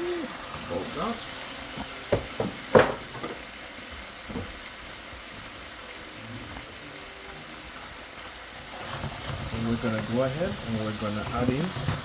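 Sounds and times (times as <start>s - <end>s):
sauce sizzling in frying pan: 0.0s - 12.0s.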